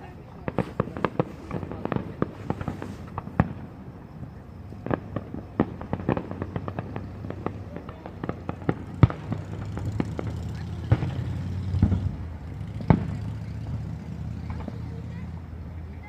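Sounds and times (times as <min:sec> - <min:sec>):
fireworks popping and cracking: 0:00.0 - 0:15.4
fireworks bangs: 0:00.0 - 0:16.0.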